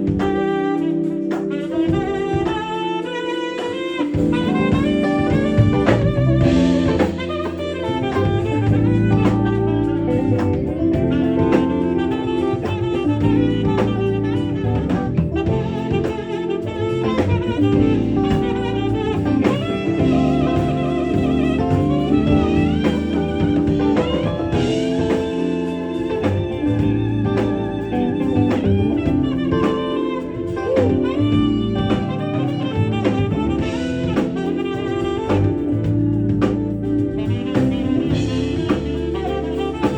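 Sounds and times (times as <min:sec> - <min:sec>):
bass: 0:00.0 - 0:39.9
drum kit: 0:00.0 - 0:39.9
saxophone melody: 0:00.0 - 0:39.9.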